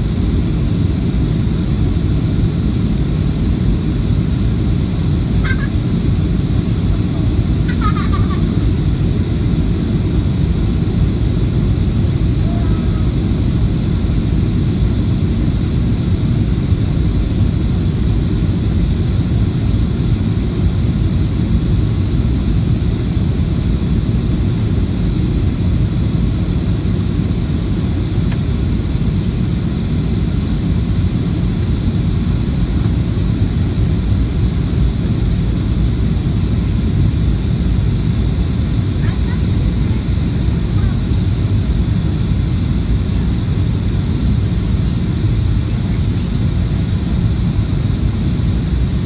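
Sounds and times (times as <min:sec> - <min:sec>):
low engine rumble: 0:00.0 - 0:49.0.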